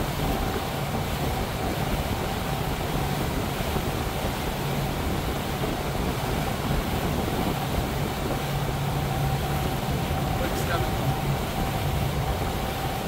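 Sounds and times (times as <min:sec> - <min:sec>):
motorboat engine hum: 0:00.0 - 0:13.0
wind and water rushing: 0:00.0 - 0:13.0.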